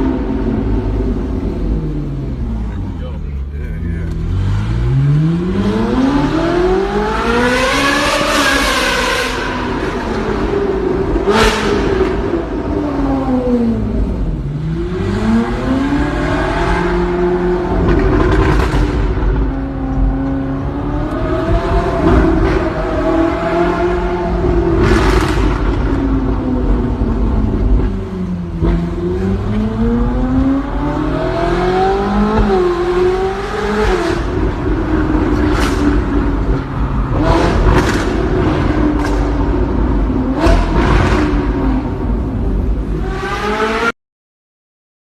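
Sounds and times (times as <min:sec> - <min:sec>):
sports car engine revving: 0:00.0 - 0:43.9.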